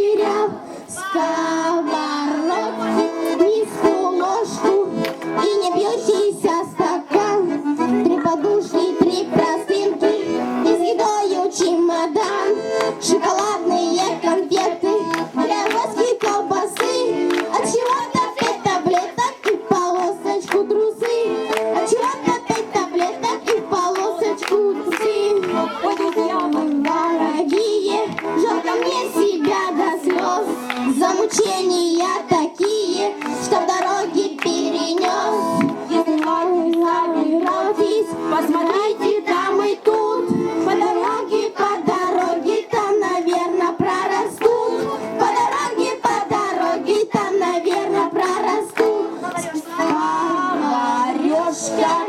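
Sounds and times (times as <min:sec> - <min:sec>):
children singing: 0:00.0 - 0:52.0
instrumental accompaniment: 0:00.0 - 0:52.0.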